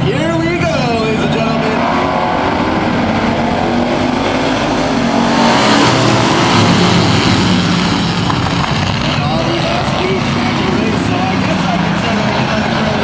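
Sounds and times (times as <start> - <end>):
race truck engines accelerating: 0.0 - 13.0.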